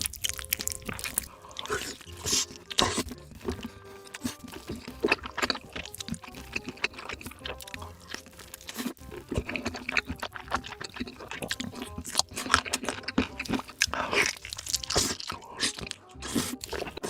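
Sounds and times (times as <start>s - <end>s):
person chewing sausages: 0.0s - 17.0s
wet clicks and snaps: 0.0s - 17.0s.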